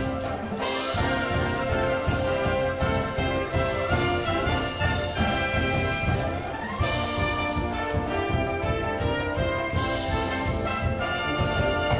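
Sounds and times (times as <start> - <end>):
drum beat: 0.0 - 11.9
trumpets and trombones playing: 0.0 - 11.9.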